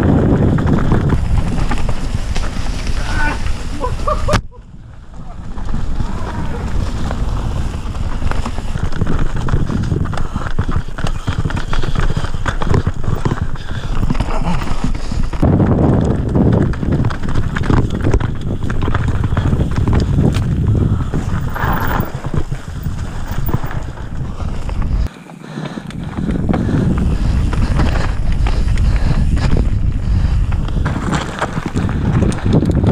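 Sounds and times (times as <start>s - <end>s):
bike rattling over stones: 0.0s - 32.9s
wind buffeting microphone: 0.0s - 32.9s.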